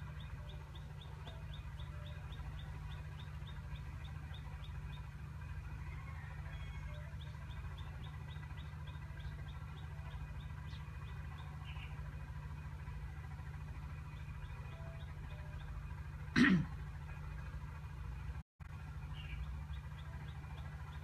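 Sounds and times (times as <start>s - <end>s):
bird chirping: 0.0s - 16.2s, 19.0s - 21.0s
steady low hum: 0.0s - 21.0s.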